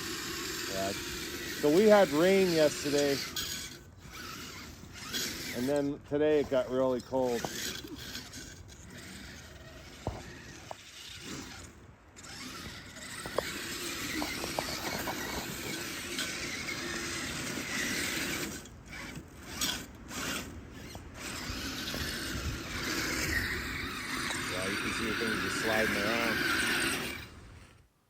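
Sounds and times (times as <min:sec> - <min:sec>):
electric motor and tracks on snow: 0:00.0 - 0:28.0.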